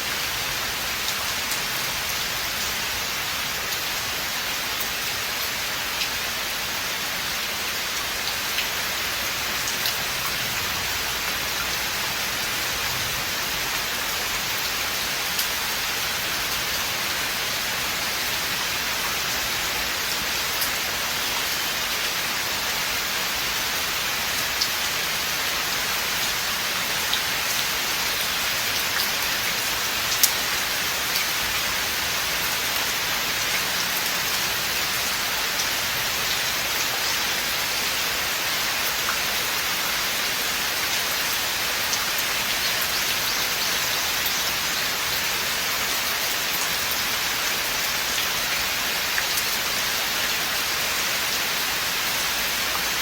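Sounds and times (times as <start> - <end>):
rain falling through forest: 0.0 - 53.0.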